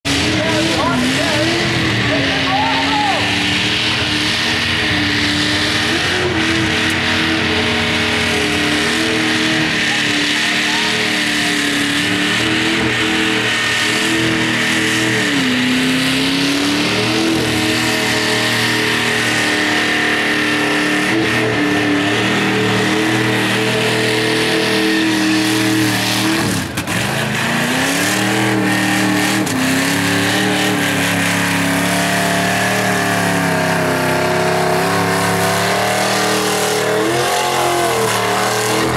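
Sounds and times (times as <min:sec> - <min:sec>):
engine at high revs: 0:00.0 - 0:38.9
tyres spinning and squealing: 0:00.1 - 0:38.9.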